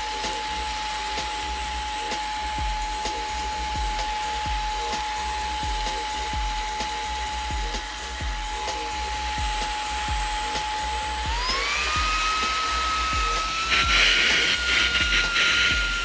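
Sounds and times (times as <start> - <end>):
vacuum cleaner motor whining: 0.0 - 16.0.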